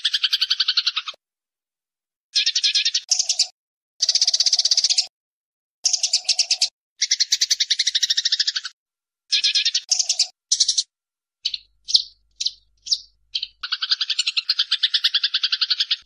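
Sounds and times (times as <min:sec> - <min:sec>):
sparrows chattering: 0:00.0 - 0:01.2, 0:02.4 - 0:05.1, 0:05.8 - 0:16.0.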